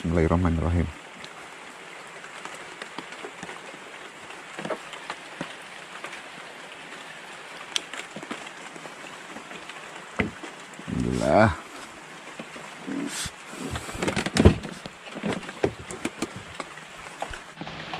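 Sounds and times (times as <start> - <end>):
light rain falling: 0.0 - 17.9
raindrops ticking on surfaces: 0.0 - 17.9.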